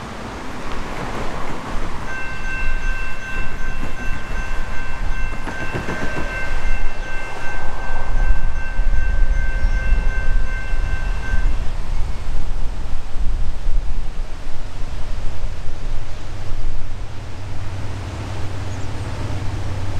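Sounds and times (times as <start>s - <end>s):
train rumble: 0.0s - 19.9s.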